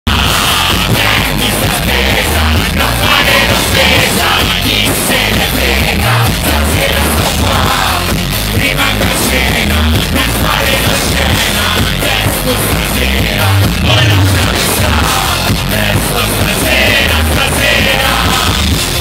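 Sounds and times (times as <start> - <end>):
heavy pulsing bass: 0.0 - 19.0
live rock band playing: 0.1 - 19.0.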